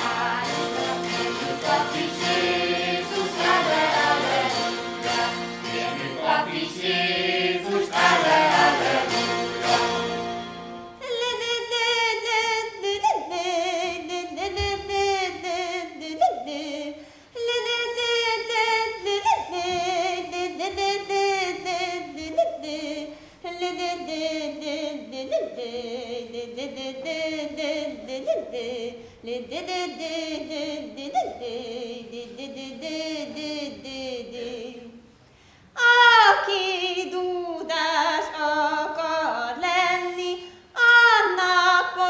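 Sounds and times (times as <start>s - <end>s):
woman singing unaccompanied: 0.0s - 9.9s, 11.0s - 35.0s, 35.8s - 42.0s.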